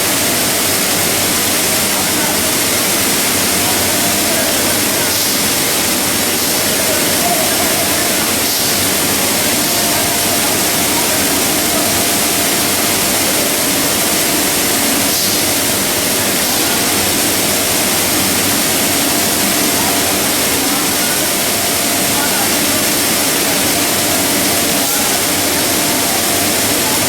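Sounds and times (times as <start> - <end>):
machinery loud steady hiss: 0.0 - 27.0.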